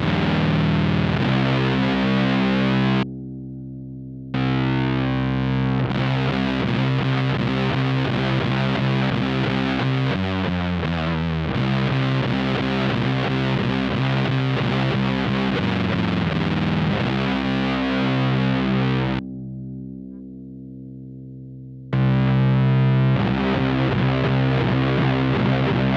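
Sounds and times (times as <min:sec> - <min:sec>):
distorted electric guitar riff: 0:00.0 - 0:25.9.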